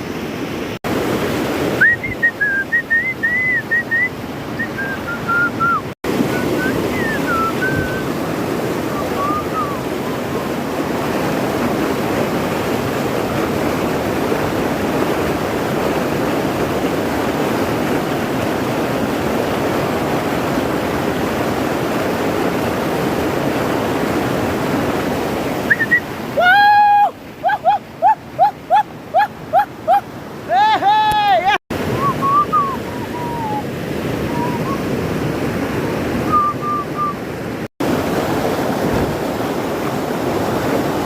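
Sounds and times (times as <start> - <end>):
river water rushing over rocks: 0.0 - 41.0.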